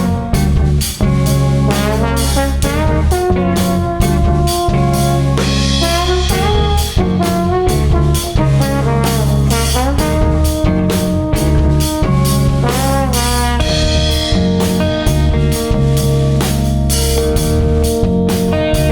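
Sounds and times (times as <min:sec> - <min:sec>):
drum kit beat: 0:00.0 - 0:18.9
trombone sliding melody: 0:00.0 - 0:18.9.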